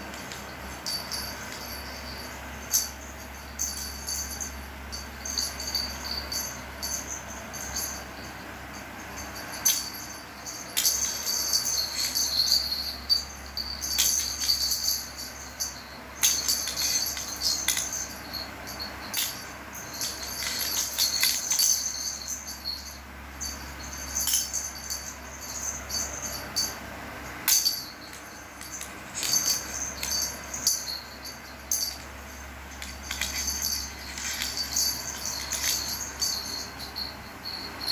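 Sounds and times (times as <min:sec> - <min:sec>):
bell toy jingling: 0:00.0 - 0:37.9.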